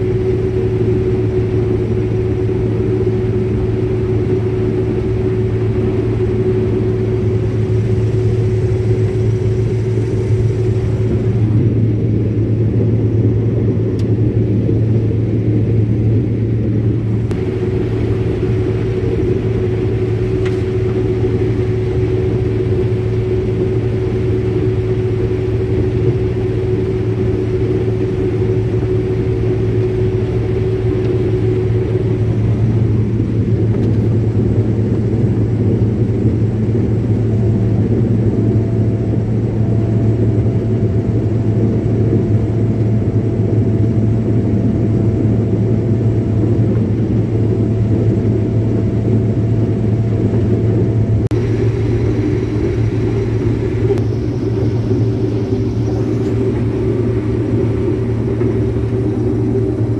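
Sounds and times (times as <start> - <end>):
combine harvester engine drone: 0.0 - 59.9
faint steady whine: 0.0 - 59.9.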